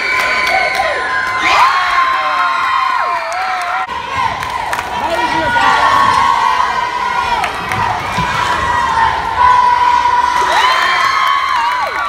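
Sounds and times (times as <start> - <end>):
crowd cheering and yelling: 0.0 - 12.0.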